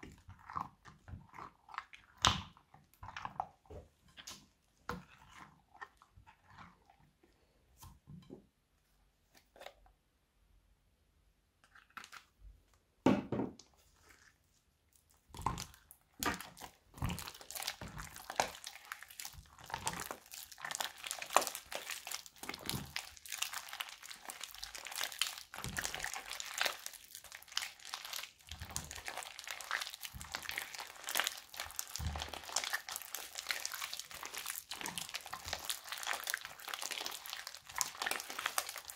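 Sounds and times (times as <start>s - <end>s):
crunchy slime crackling and squishing: 0.0s - 7.2s, 13.8s - 38.9s
slime squelching when stirred: 0.0s - 10.1s, 13.6s - 38.9s.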